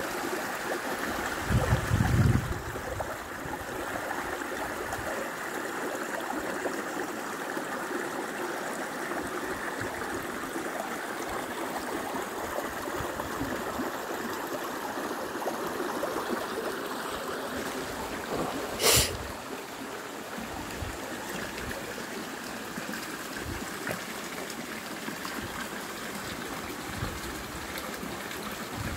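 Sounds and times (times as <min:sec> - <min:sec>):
stream flowing over rocks: 0:00.0 - 0:28.9.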